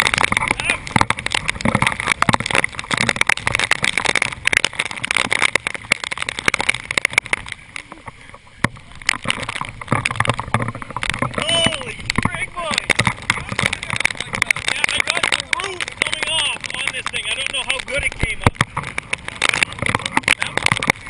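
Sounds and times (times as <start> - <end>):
crackling and popping: 0.0 - 21.0
wind buffeting microphone: 0.0 - 21.0.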